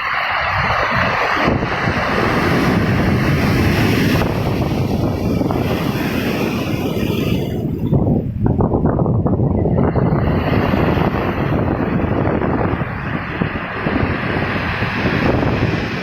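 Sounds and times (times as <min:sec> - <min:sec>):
sea waves breaking: 0:00.0 - 0:08.4, 0:10.1 - 0:16.0
wind buffeting microphone: 0:00.0 - 0:16.0.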